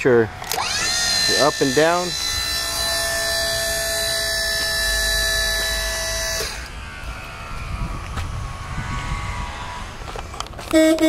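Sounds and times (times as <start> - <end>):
hydraulic pump motor whining: 0.0 - 11.0.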